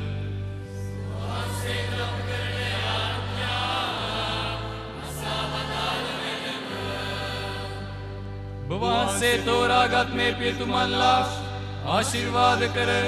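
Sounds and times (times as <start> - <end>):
choir and congregation chanting: 0.0 - 13.0
sustained keyboard chords: 0.0 - 13.0.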